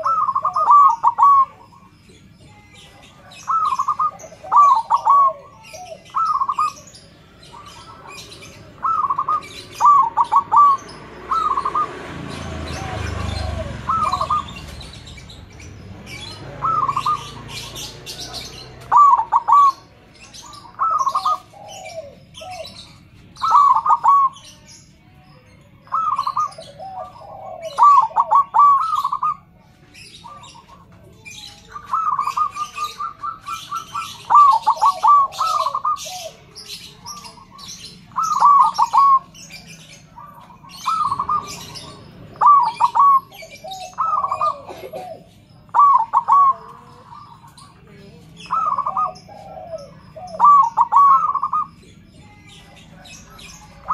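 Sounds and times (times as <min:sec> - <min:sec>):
doves cooing: 0:00.0 - 0:24.8, 0:25.8 - 0:53.9
small birds chirping: 0:00.0 - 0:53.9.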